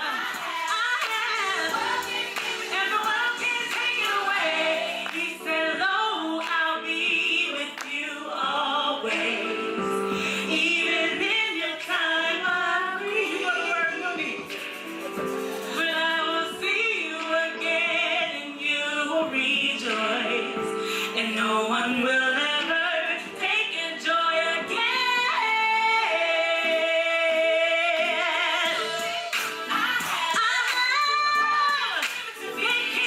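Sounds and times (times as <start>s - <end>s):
backing music: 0.0s - 33.0s
gospel singer with vibrato: 0.0s - 33.0s.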